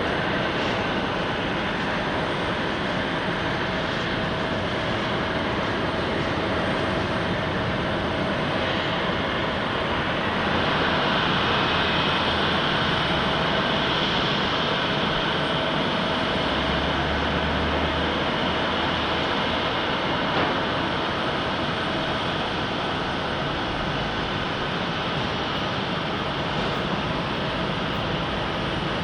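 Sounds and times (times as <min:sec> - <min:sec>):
faint engine whine: 0:00.0 - 0:29.0
jet engines roaring: 0:00.0 - 0:29.0.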